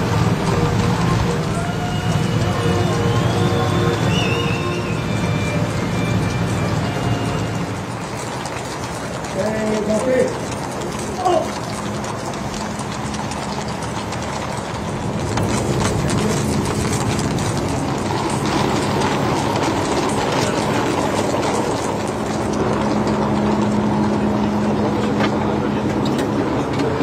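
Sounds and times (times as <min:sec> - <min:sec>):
engine drone: 0:00.0 - 0:27.0
outdoor noise: 0:00.0 - 0:27.0.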